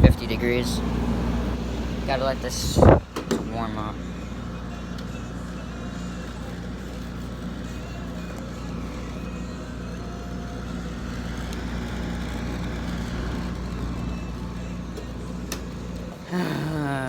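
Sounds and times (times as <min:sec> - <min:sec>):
air conditioner compressor hum: 0:00.0 - 0:17.0
fan airflow noise: 0:00.0 - 0:17.0.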